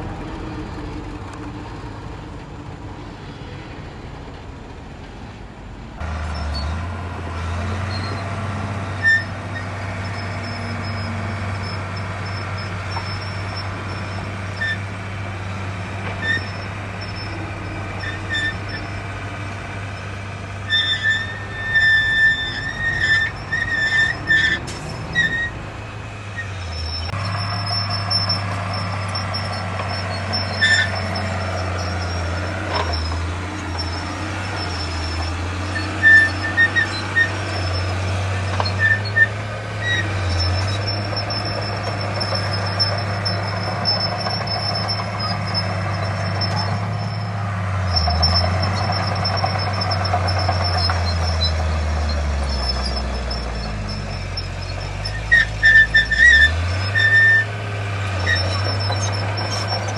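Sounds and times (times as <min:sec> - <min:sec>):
heavy machinery diesel engine: 0:00.0 - 0:59.9
short high squeaks: 0:06.2 - 0:14.9, 0:15.5 - 0:19.2, 0:19.9 - 0:25.6, 0:26.4 - 0:59.9.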